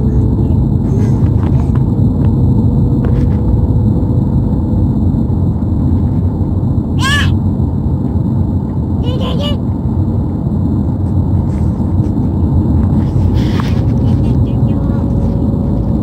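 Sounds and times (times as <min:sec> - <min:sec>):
car driving rumble inside cabin: 0:00.0 - 0:16.0.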